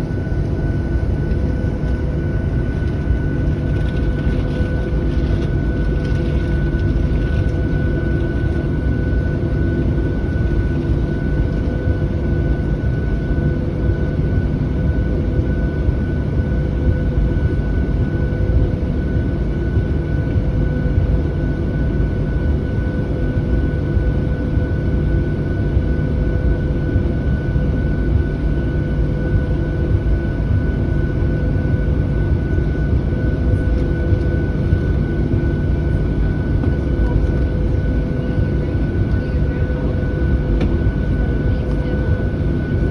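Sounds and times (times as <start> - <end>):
airplane cabin rumble: 0.0 - 42.9
thin steady whine: 0.0 - 42.9.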